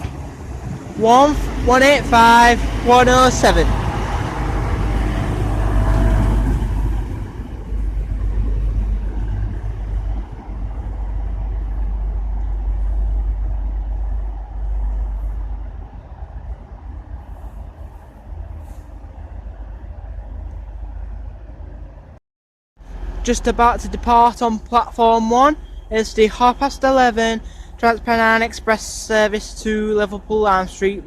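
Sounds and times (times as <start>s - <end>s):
deep train engine rumble: 0.0s - 22.2s, 22.8s - 31.0s.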